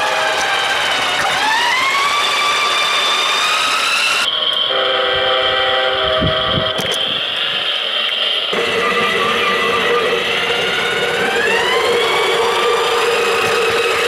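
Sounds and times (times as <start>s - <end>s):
toy train motor whining: 0.0s - 14.0s.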